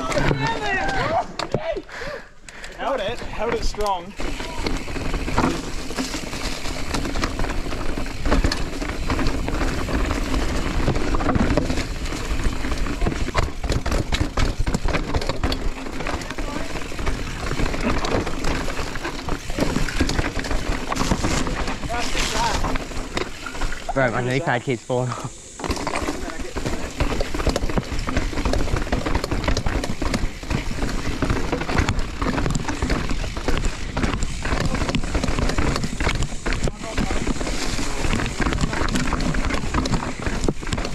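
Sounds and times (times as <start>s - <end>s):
bike tyres rumbling on dirt: 0.0s - 40.9s
bike clattering over bumps: 2.6s - 40.9s.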